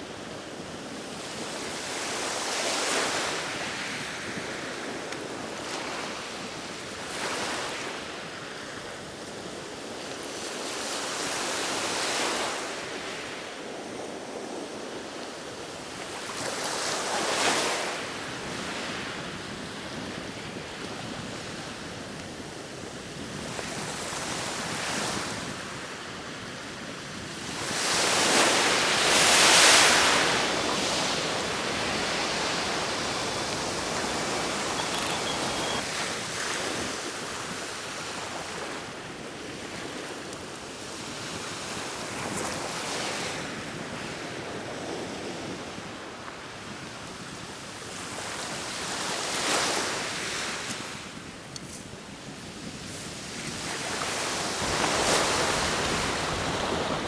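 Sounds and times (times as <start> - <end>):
sea waves washing ashore: 0.0 - 57.0.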